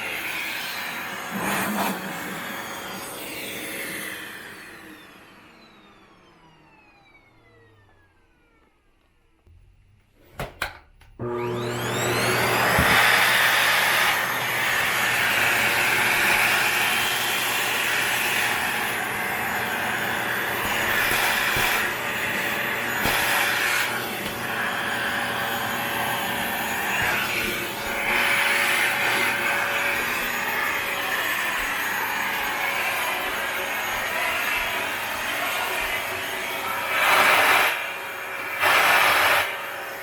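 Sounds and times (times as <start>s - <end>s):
canister vacuum cleaner running: 0.0s - 40.0s.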